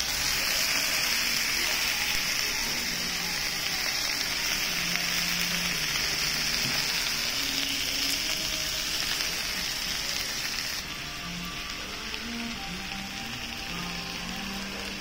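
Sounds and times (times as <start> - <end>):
meat and vegetables sizzling: 0.0 - 15.0.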